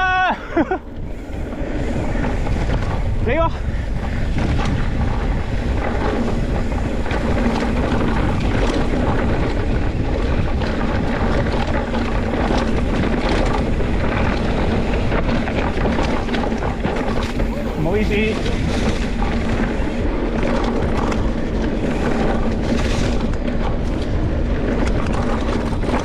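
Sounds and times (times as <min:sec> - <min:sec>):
rough rumble: 0:00.0 - 0:26.0
wind buffeting microphone: 0:00.0 - 0:26.0.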